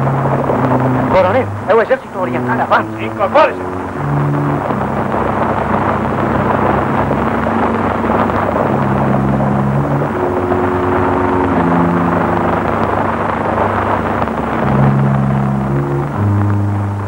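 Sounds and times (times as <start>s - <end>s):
horses galloping: 0.0s - 14.7s
orchestral film score chords: 0.0s - 17.0s.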